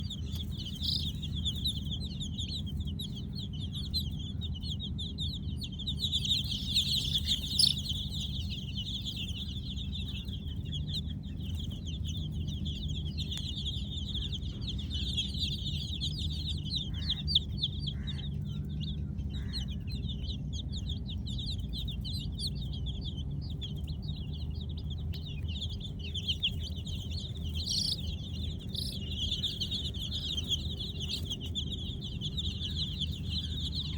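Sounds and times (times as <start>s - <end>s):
baby chicks peeping: 0.0s - 33.9s
steady low hum: 0.0s - 33.9s.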